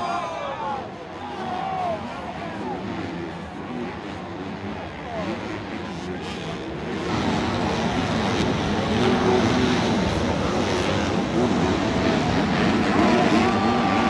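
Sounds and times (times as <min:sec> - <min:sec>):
dirt bikes racing: 0:00.0 - 0:14.0.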